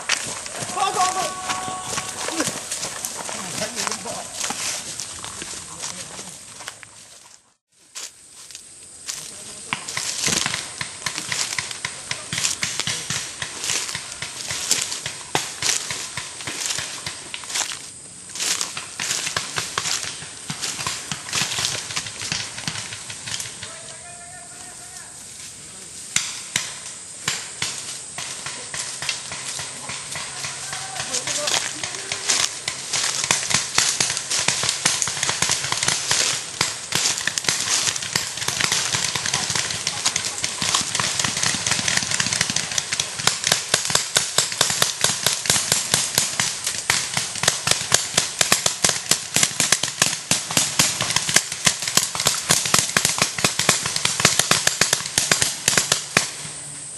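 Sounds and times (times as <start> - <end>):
paintball markers firing: 0.0 - 4.7, 9.7 - 17.6, 18.4 - 23.8, 26.1 - 56.6
brushing through undergrowth: 0.0 - 24.0, 24.8 - 56.4
footsteps crunching dry leaves: 0.0 - 56.4.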